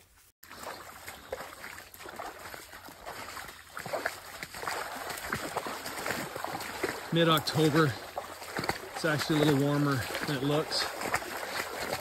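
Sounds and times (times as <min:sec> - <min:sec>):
footsteps wading through water: 0:00.4 - 0:12.0.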